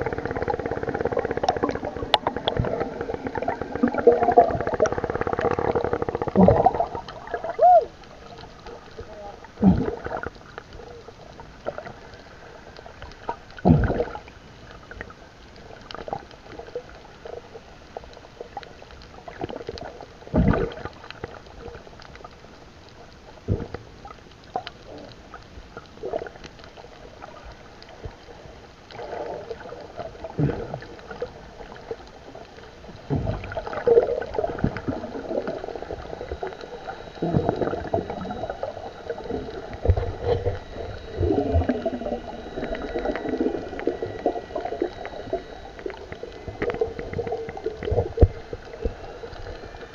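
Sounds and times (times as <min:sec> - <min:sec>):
underwater bubbling and gurgling: 0:00.0 - 0:49.9.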